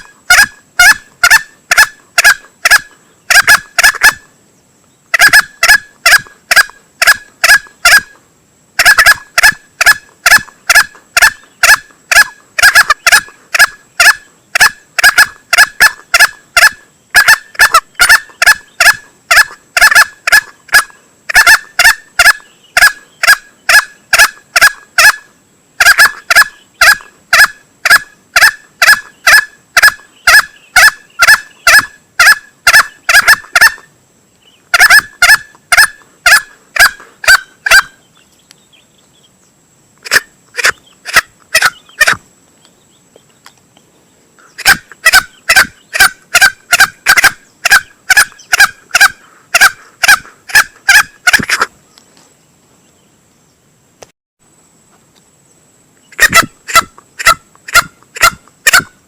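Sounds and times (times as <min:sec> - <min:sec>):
junglefowl clucking: 0:00.0 - 0:04.3, 0:05.1 - 0:08.2, 0:08.8 - 0:33.9, 0:34.7 - 0:38.1, 0:40.0 - 0:42.2, 0:44.4 - 0:51.8, 0:56.1 - 0:59.0.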